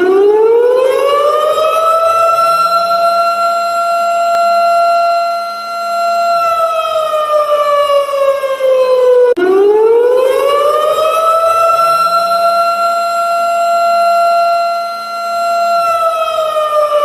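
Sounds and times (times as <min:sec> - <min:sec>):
wailing siren: 0:00.0 - 0:17.0.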